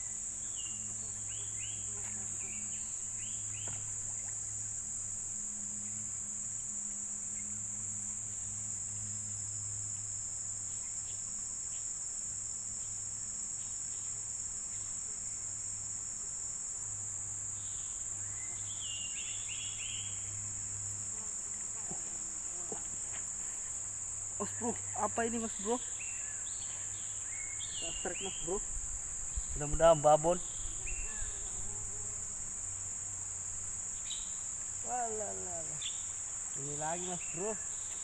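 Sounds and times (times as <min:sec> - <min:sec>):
insects chirring: 0:00.0 - 0:38.0.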